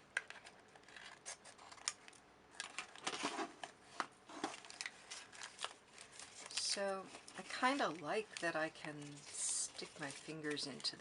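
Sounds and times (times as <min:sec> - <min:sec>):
paper rustling: 0:00.3 - 0:11.0.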